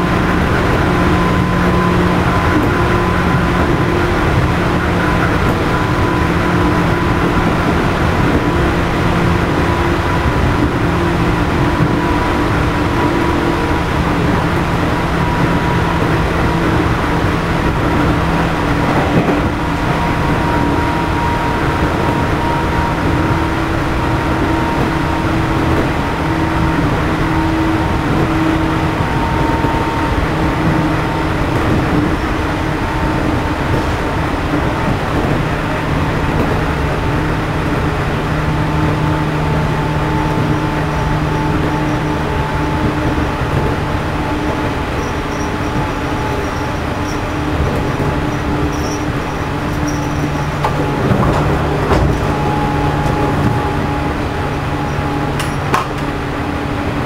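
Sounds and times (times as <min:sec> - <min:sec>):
train motors and fans humming: 0:00.0 - 0:57.0
wheels rumbling on rails: 0:00.0 - 0:57.0.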